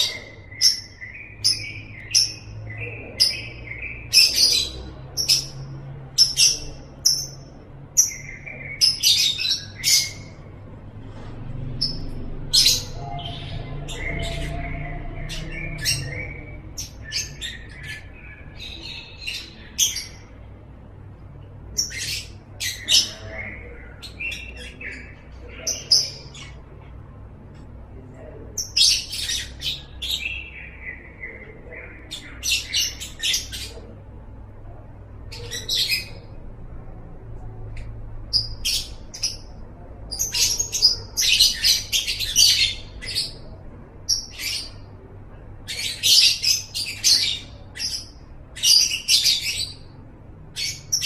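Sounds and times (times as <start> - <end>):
bird chirping and squawking: 0.0 - 10.8, 11.5 - 20.8, 21.4 - 27.2, 28.6 - 34.3, 35.2 - 36.4, 37.7 - 45.0, 45.6 - 51.0
low background hum: 0.0 - 51.0.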